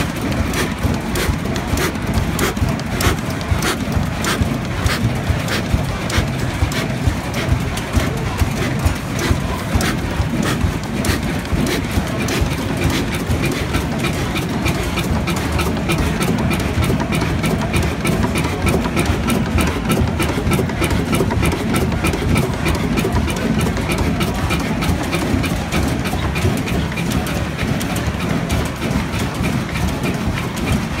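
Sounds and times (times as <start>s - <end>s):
diesel engine knocking: 0.0s - 31.0s.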